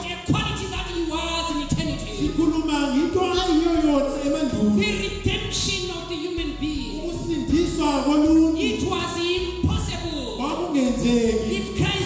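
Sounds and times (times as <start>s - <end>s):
man preaching over a microphone: 0.0s - 12.0s.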